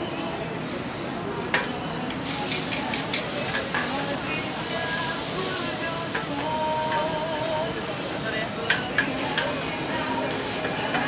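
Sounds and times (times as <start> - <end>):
murmur of voices: 0.0 - 11.0
food sizzling in a wok: 2.0 - 11.0.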